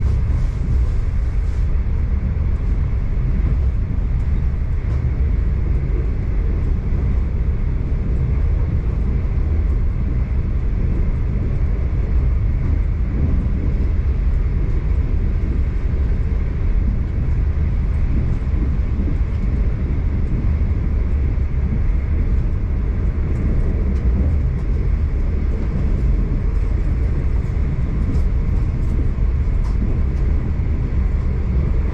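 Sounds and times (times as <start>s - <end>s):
train rumbling in motion: 0.0s - 31.9s.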